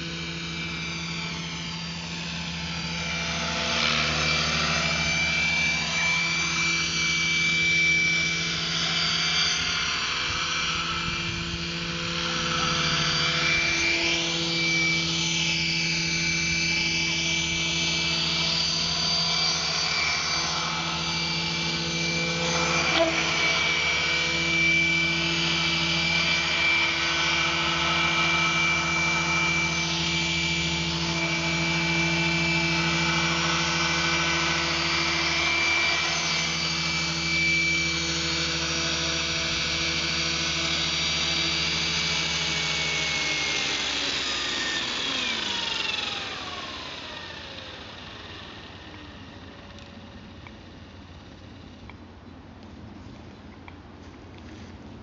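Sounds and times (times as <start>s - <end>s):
rc helicopter motor whine: 0.0s - 55.0s
rotor hum: 0.0s - 55.0s.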